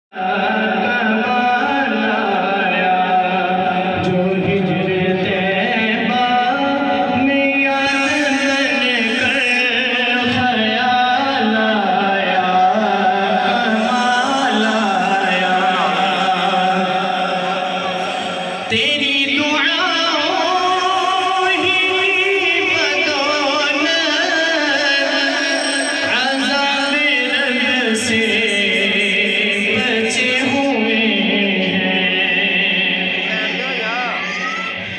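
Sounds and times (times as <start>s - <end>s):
person chanting a devotional song: 0.1s - 34.9s.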